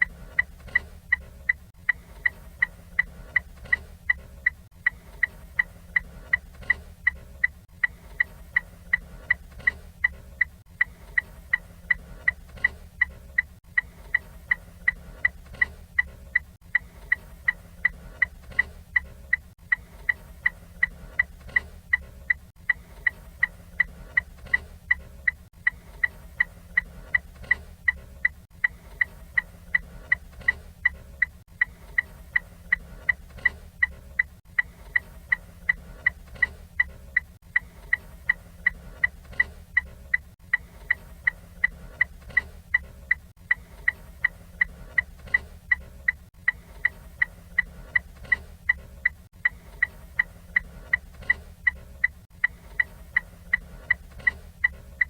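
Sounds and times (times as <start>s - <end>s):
turn signal ticking: 0.0s - 55.0s.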